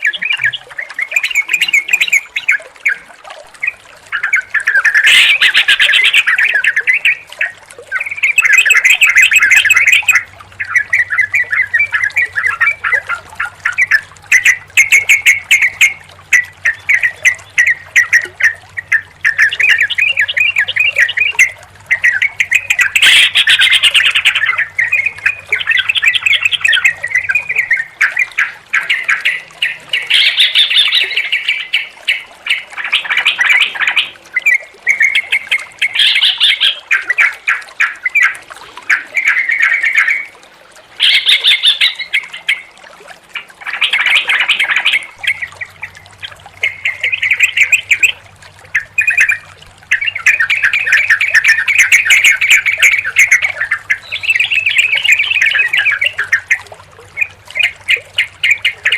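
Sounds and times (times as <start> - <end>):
bulbuls singing: 0.0 - 58.9.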